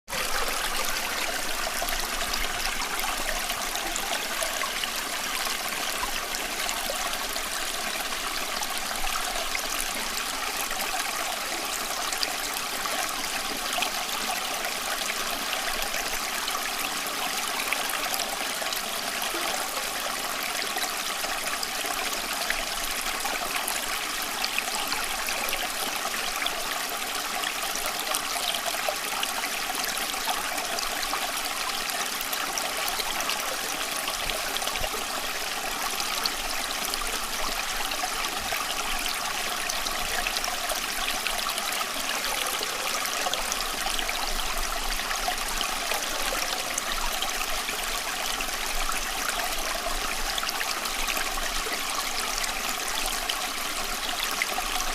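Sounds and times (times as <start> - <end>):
water running steadily: 0.1 - 54.9.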